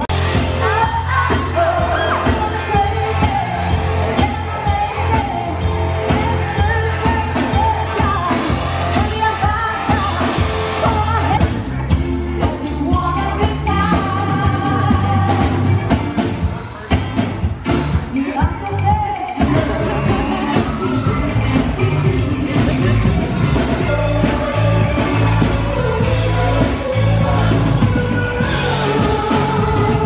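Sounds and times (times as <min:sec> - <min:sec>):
live band playing: 0:00.0 - 0:30.0
woman singing: 0:00.3 - 0:11.5, 0:12.4 - 0:15.9, 0:18.1 - 0:30.0.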